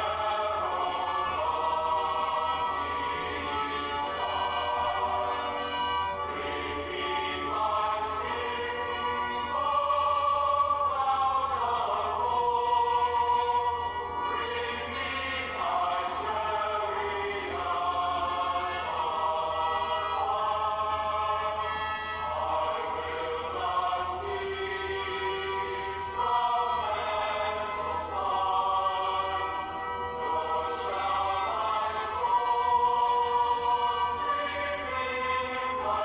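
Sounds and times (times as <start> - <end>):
choir singing long notes: 0.0 - 36.0.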